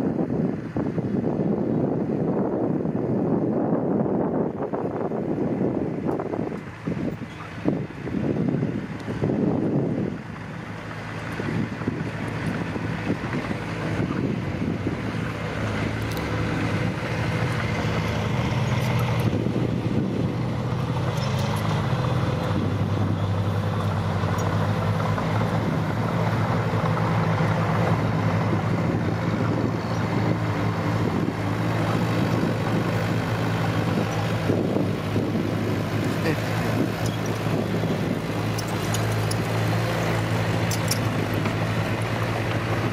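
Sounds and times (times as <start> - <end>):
dump truck engines running: 0.0 - 42.9.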